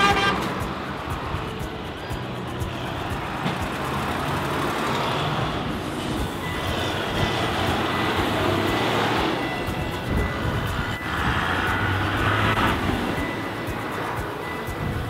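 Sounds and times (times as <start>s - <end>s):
tractor engines rumbling: 0.0s - 15.0s
tyre noise on road: 0.0s - 15.0s.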